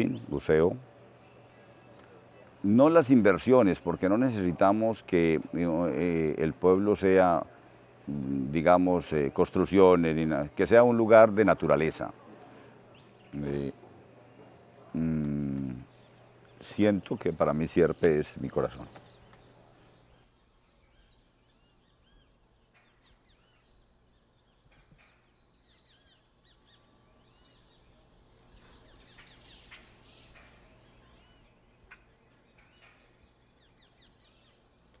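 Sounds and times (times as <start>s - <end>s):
small birds chirping: 0.0s - 35.0s
high insect drone: 2.6s - 35.0s.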